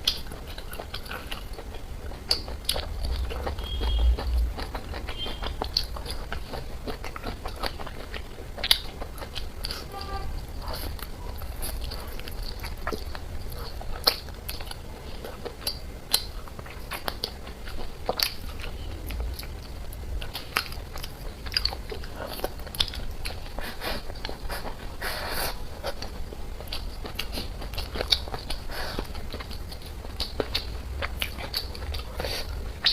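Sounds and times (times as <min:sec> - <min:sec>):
person chewing and biting: 0:00.0 - 0:32.9.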